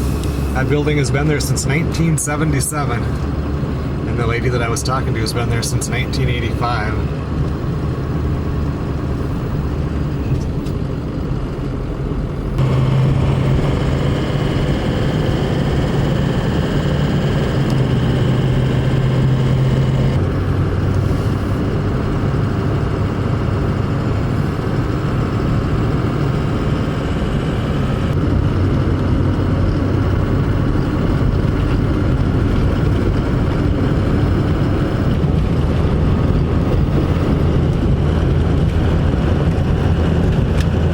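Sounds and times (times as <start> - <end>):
vehicle engine and road drone: 0.0 - 40.9.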